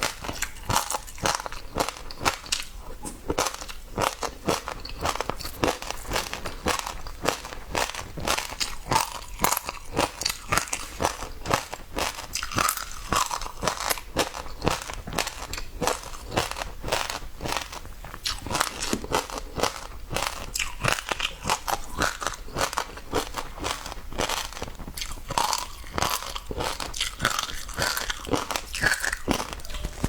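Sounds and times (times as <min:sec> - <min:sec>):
seeds crunching between teeth: 0:00.0 - 0:30.0.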